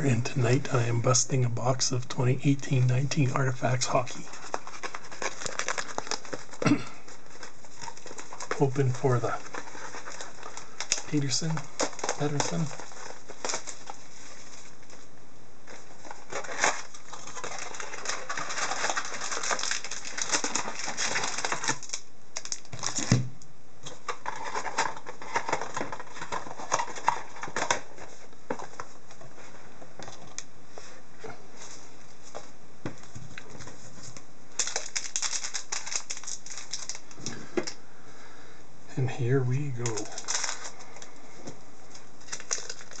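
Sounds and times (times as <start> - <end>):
plastic wrapping crinkling: 2.4 - 31.0, 31.6 - 37.8, 39.6 - 43.0.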